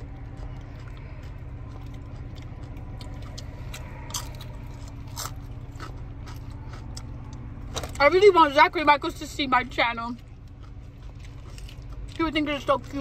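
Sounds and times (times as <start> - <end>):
chewing and biting food: 0.0 - 8.1, 9.1 - 13.0
low hum: 0.0 - 13.0.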